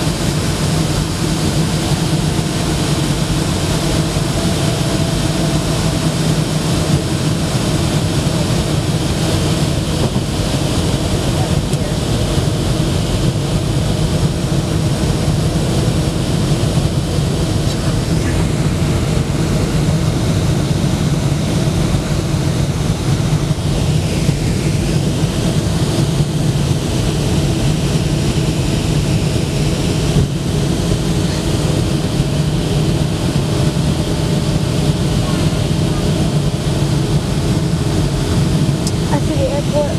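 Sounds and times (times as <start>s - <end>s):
jet cabin engine drone: 0.0s - 39.9s.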